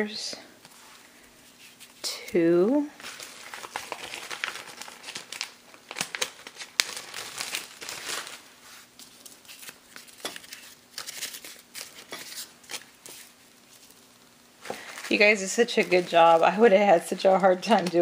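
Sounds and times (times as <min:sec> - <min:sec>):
plastic sleeves crackling: 0:00.6 - 0:18.0.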